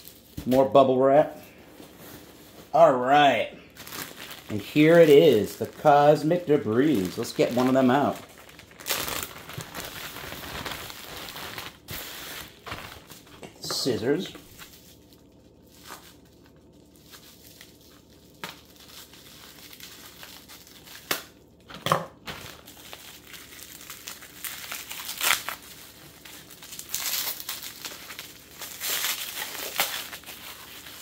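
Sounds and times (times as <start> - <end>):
bubble wrap crinkling: 0.0 - 31.0.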